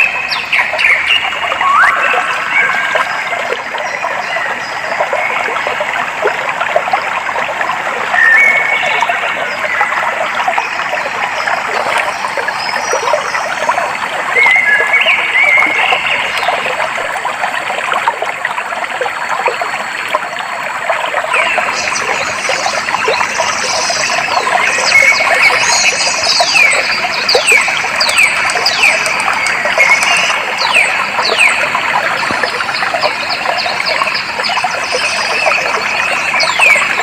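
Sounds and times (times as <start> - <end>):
water trickling in a stream: 0.0 - 37.0.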